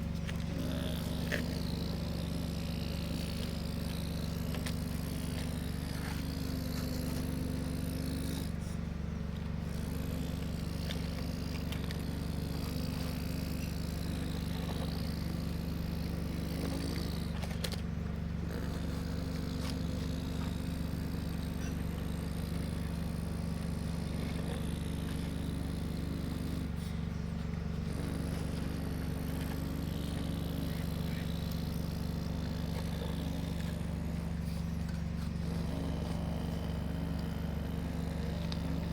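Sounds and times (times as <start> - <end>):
excavator engine humming: 0.0 - 38.9.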